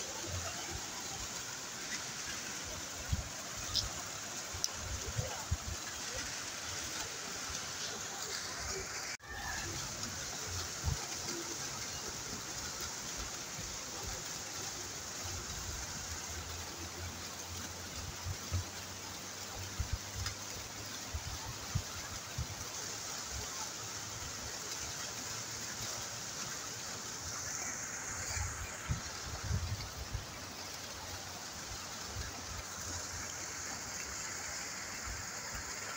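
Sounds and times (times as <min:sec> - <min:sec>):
waterfall: 0:00.0 - 0:35.9.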